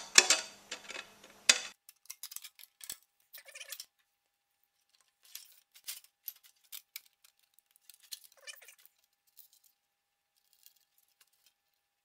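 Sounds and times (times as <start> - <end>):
clicks and rattles of parts: 0.0 - 4.1, 4.8 - 9.8, 10.4 - 11.8.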